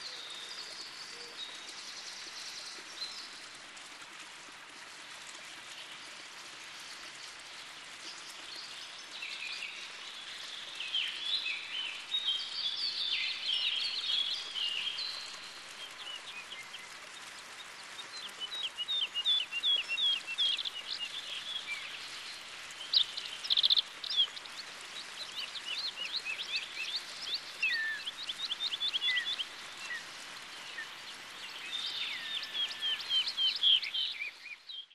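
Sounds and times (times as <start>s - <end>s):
faint background hiss: 0.0s - 34.9s
songbirds chirping and trilling: 5.9s - 34.9s.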